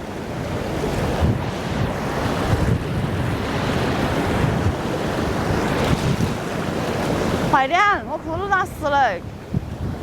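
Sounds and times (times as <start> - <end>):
running water rushing: 0.0 - 9.4
wind buffeting microphone: 0.0 - 10.0.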